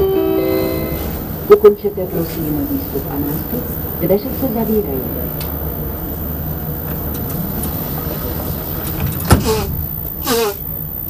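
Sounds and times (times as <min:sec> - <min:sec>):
metro train rumbling: 0:00.0 - 0:11.0.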